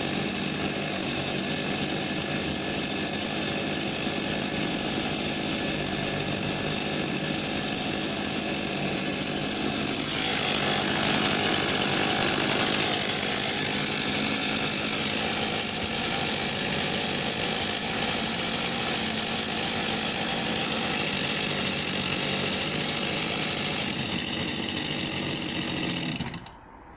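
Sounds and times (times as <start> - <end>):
chainsaws idling: 0.0 - 26.6.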